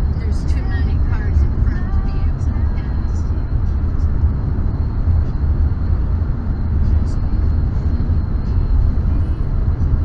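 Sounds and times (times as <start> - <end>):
car cabin road and engine noise: 0.0 - 10.0.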